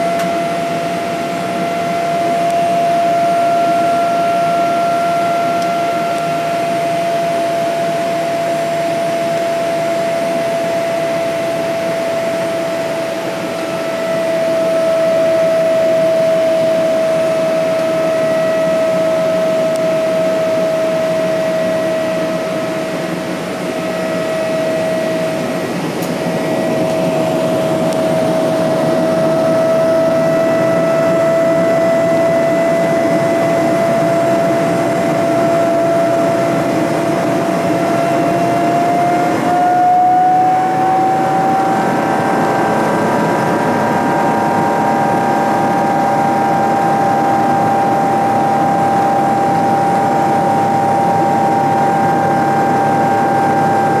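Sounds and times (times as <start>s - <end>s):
aircraft cabin engine rush: 0.0s - 54.0s
jet engine whine: 0.0s - 54.0s.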